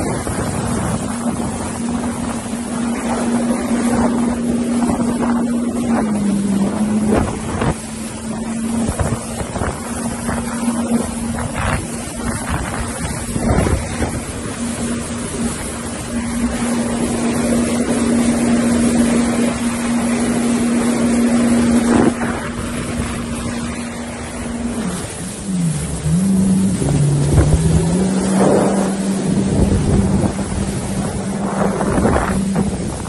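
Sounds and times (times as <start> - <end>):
jet ski engine: 0.0 - 33.0
wind noise on microphone: 0.0 - 33.0.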